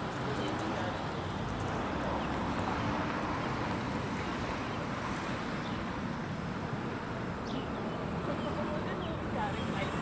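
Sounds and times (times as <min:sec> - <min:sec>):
steady rushing outdoor noise: 0:00.0 - 0:10.0.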